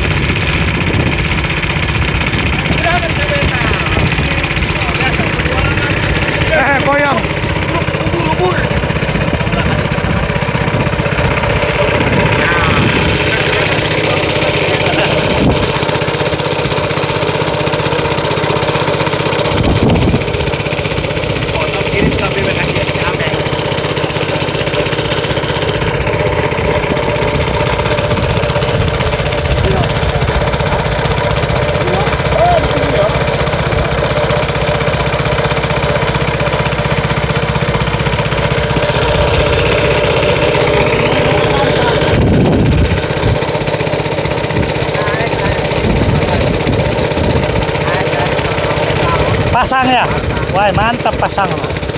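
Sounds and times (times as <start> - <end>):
small engine chugging: 0.0 - 51.9.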